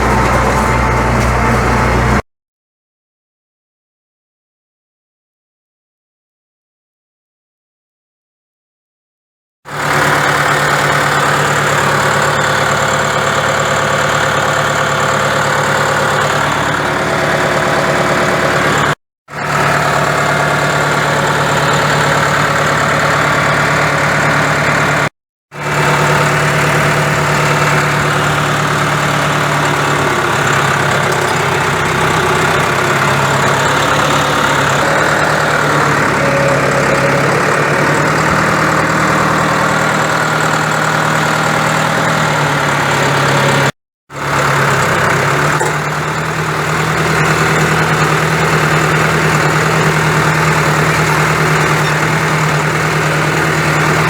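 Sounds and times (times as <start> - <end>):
large machine engine idling: 0.0 - 2.2, 9.7 - 54.0.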